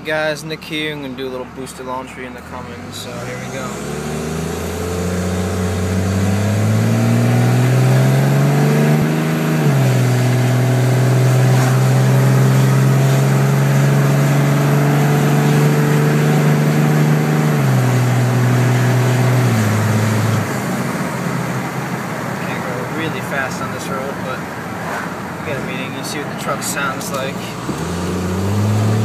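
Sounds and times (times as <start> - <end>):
diesel engine accelerating: 0.0 - 29.0.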